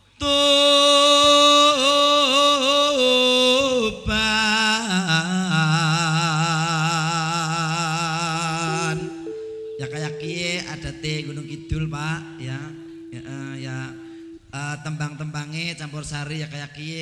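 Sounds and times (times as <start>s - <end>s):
man singing slow ballad: 0.2s - 16.9s.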